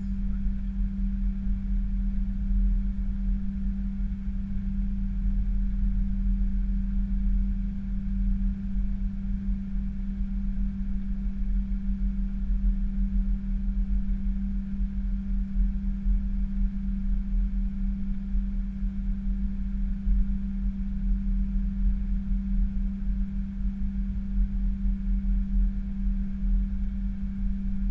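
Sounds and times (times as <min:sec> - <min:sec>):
airliner cockpit hum and rumble: 0:00.0 - 0:27.9.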